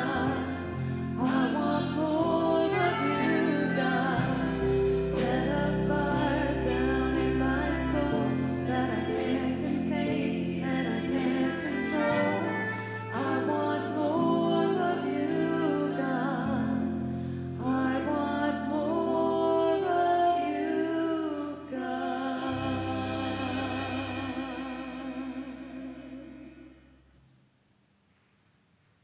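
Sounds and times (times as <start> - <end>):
women singing a hymn: 0.0 - 27.0
keyboard accompaniment: 0.0 - 27.1.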